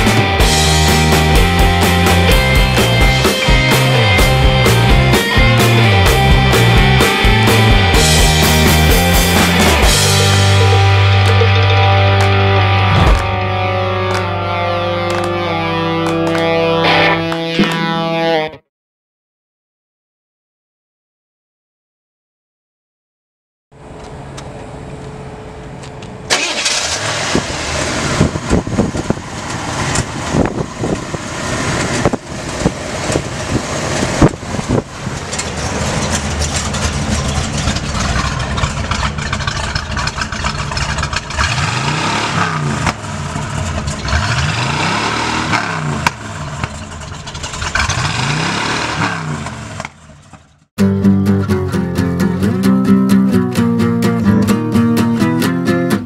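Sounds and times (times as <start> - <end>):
car engine starting and running: 0.0 - 17.9, 23.8 - 56.0
engine throttle blips: 0.0 - 18.4, 23.8 - 50.7.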